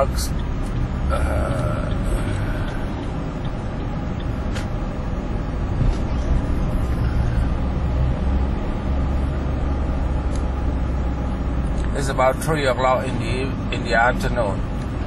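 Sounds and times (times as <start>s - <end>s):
heavy highway traffic rumble: 0.0s - 15.0s.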